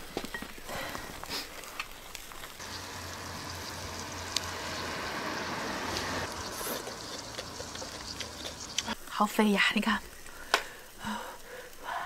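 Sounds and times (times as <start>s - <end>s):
oysters sizzling on a grill: 0.0s - 12.0s.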